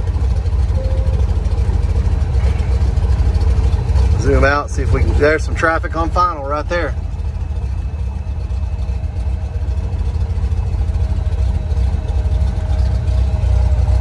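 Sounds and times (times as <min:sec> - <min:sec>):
airplane engine idling: 0:00.0 - 0:14.0
thin steady whine: 0:00.0 - 0:14.0.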